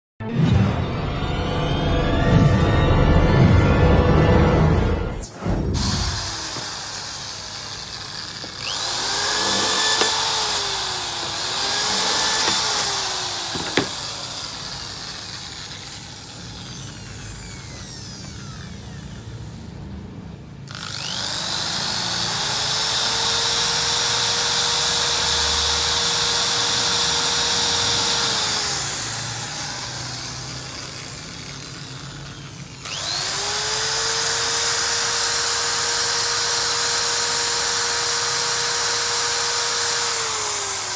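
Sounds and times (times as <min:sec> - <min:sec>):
electric drill motor whine: 0:05.2 - 0:20.0, 0:20.7 - 0:40.9.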